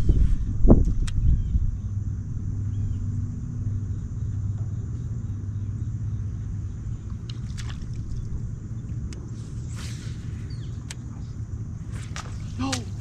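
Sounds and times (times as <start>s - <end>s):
low rumble: 0.0s - 13.0s
trolling motor humming: 0.4s - 13.0s.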